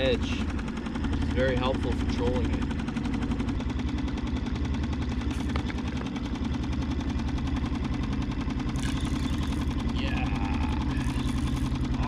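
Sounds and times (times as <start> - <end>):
outboard motor puttering: 0.0 - 12.0.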